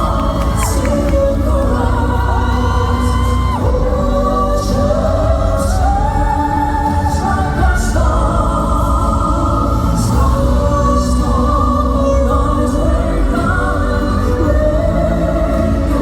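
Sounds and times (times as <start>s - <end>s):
live band accompaniment: 0.0s - 16.0s
male vocal quartet singing: 0.0s - 16.0s.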